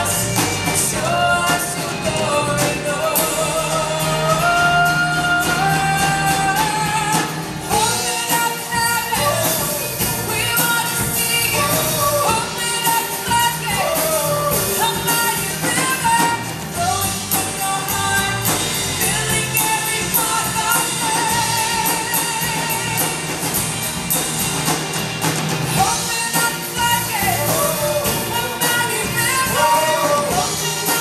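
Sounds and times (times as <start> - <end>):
women singing: 0.0 - 23.5, 25.7 - 31.0
live worship band playing: 0.0 - 31.0.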